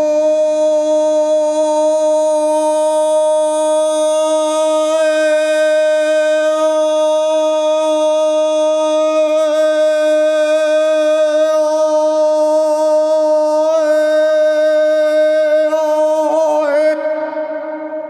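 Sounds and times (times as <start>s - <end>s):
man throat singing drone: 0.0s - 18.0s.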